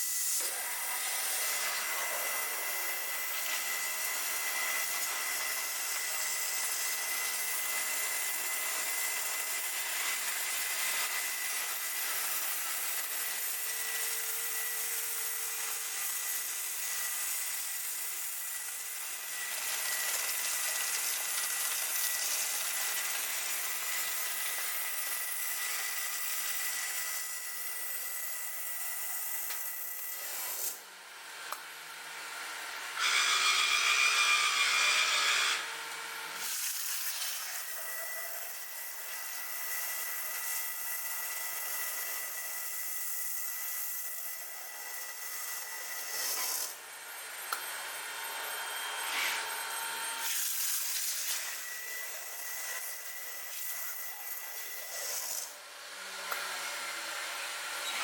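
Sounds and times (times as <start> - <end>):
stone cutting machine whining: 0.0 - 58.0.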